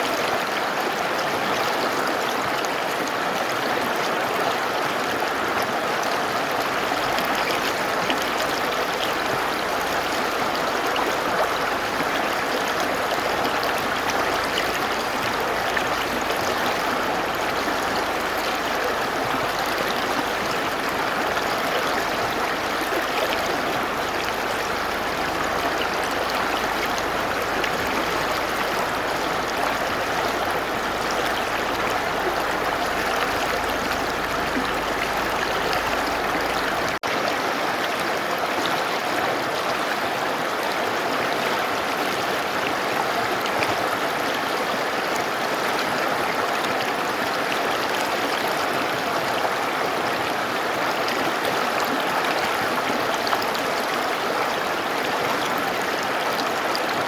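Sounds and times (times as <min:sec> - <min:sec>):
mountain river rushing: 0:00.0 - 0:57.0.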